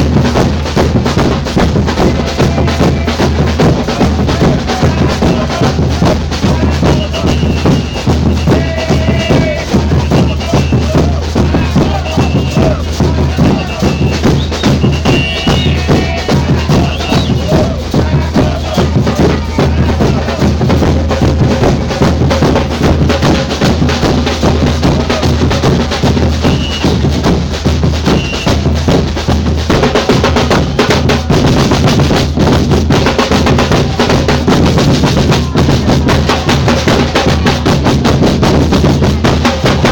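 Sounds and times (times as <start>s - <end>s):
deep bass drum: 0.0s - 39.9s
fast samba drumming: 0.0s - 39.9s.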